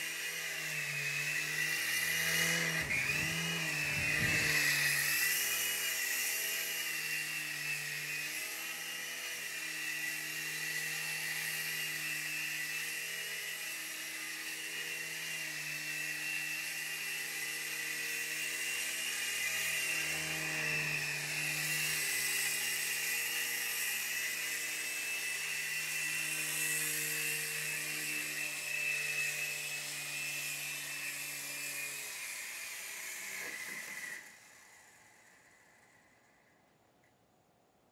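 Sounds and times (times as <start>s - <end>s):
toy helicopter motor whine: 0.0s - 36.8s.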